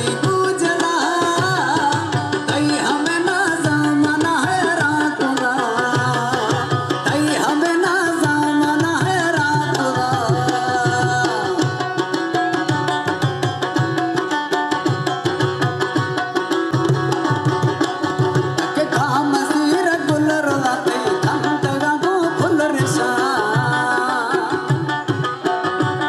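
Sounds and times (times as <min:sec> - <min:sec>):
tabla drumming: 0:00.0 - 0:26.0.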